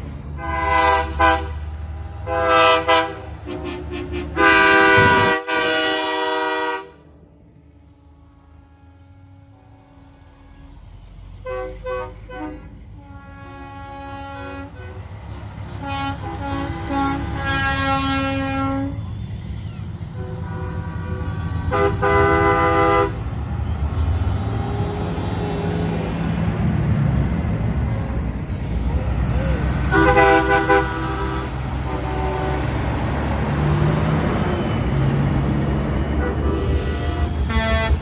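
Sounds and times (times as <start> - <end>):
diesel truck engines rumbling: 0.0 - 38.0
truck air horns blowing: 0.3 - 7.2, 7.8 - 19.2, 20.1 - 23.8, 27.7 - 38.0.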